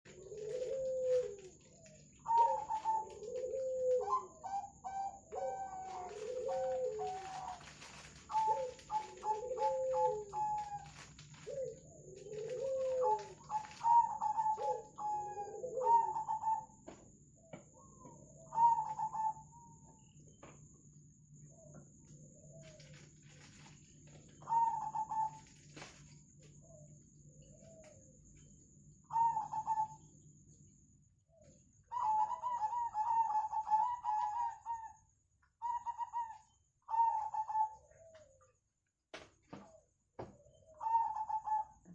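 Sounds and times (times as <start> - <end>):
doves cooing: 0.0 - 20.5, 21.5 - 28.2, 29.1 - 30.1, 31.4 - 38.5, 39.5 - 41.9.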